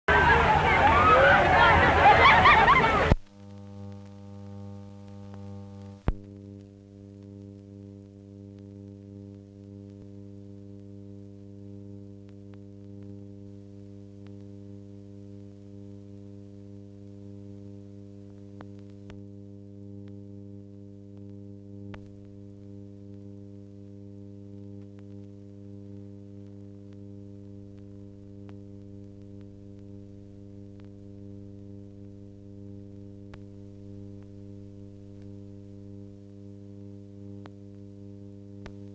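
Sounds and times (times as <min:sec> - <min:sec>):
electrical mains hum: 0:00.1 - 0:38.9
faint ticks: 0:03.1 - 0:38.9.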